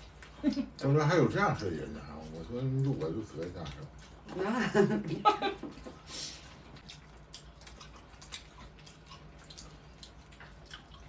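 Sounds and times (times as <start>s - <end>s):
people chewing cabbage wraps: 0.0s - 11.0s.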